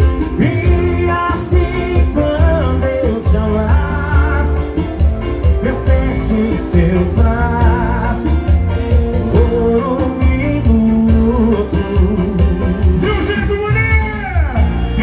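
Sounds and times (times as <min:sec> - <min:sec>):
heavy bass beat: 0:00.0 - 0:15.0
live band playing: 0:00.0 - 0:15.0
man singing into a microphone: 0:00.0 - 0:15.0.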